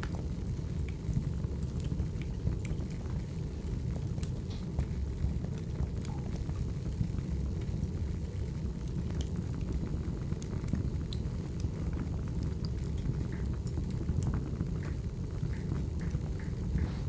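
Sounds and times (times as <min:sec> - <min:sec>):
burning logs crackling: 0:00.0 - 0:17.0
low rumble of flames: 0:00.0 - 0:17.0.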